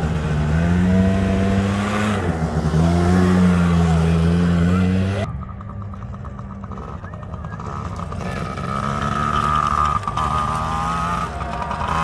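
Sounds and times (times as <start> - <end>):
dirt bike passing by: 0.0 - 12.0.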